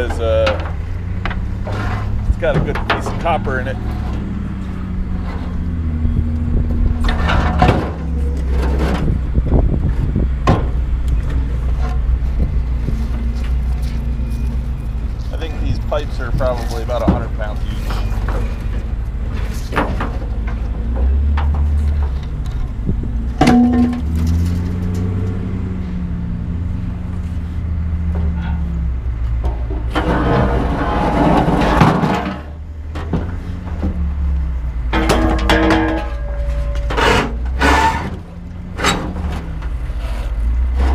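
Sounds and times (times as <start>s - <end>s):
scrap metal clanking: 0.0s - 5.8s, 6.7s - 22.8s, 23.4s - 25.3s, 28.2s - 40.9s.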